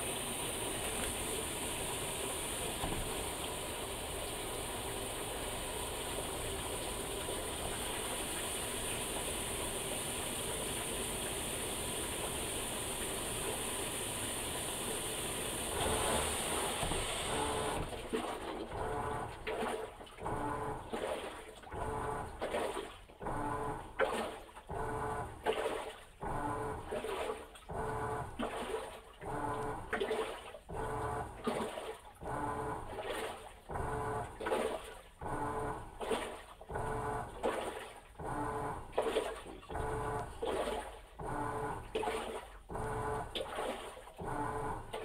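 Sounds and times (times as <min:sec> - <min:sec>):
washing machine motor hum: 0:00.0 - 0:45.0
washing machine water sloshing: 0:00.0 - 0:45.0.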